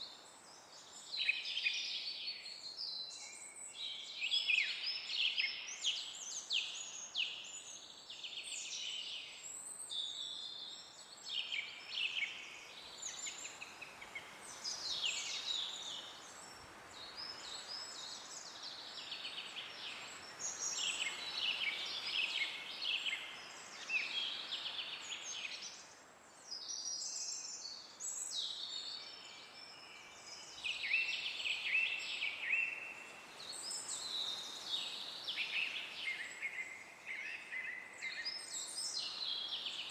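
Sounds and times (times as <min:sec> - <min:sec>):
soft wind hiss: 0:00.0 - 0:39.9
songbirds singing and calling: 0:00.0 - 0:39.9.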